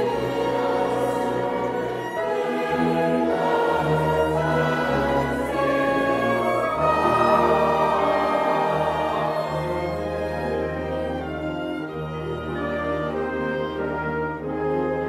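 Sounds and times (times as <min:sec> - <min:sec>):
choir singing: 0:00.0 - 0:14.9
small orchestra with strings: 0:00.0 - 0:15.0.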